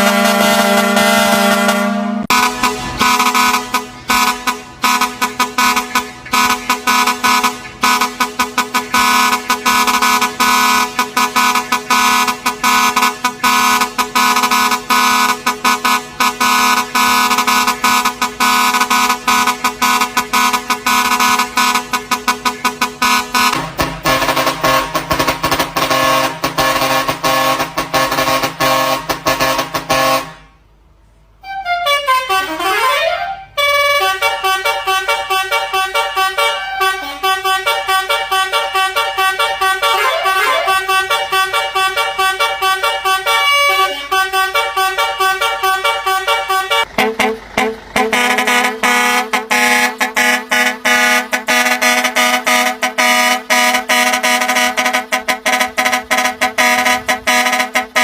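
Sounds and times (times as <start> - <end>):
truck musical horn playing a tune: 0.0 - 30.8, 31.4 - 58.0.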